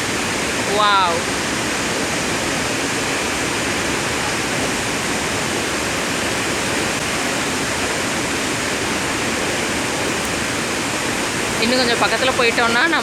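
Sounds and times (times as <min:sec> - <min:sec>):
large waterfall crashing: 0:00.0 - 0:13.0.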